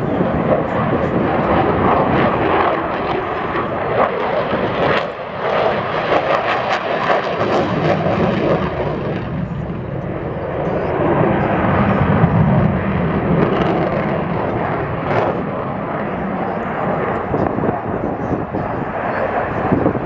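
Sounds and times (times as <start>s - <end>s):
fighter jet engine roar: 0.0s - 20.0s.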